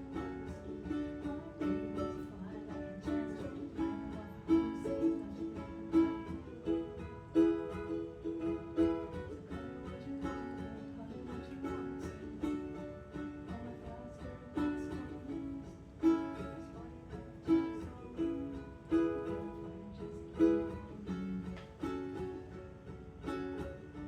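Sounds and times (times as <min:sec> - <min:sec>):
ukulele playing: 0:00.0 - 0:24.0.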